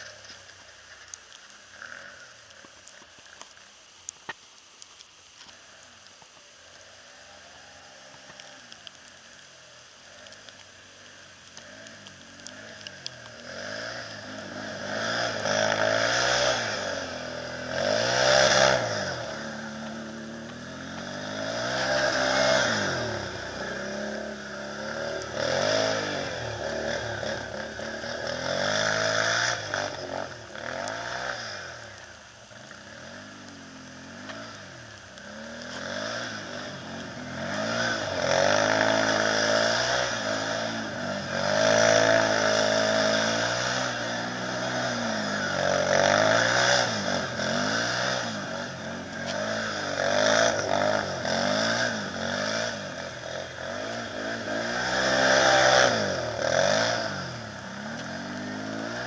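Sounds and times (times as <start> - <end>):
atv engine revving: 0.0 - 3.4, 6.7 - 59.0.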